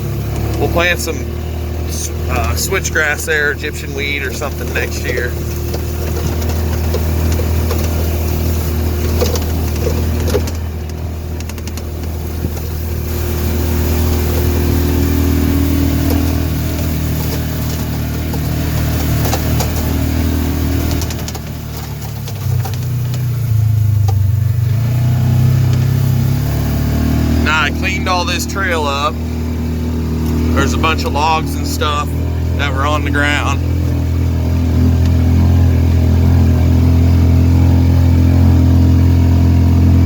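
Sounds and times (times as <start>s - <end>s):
utility vehicle engine running: 0.0s - 40.0s.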